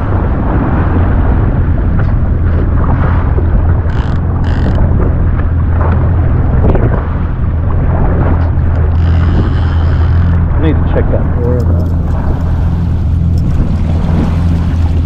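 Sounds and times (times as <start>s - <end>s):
jet ski engine humming: 0.0s - 15.0s
wind buffeting microphone: 0.0s - 15.0s.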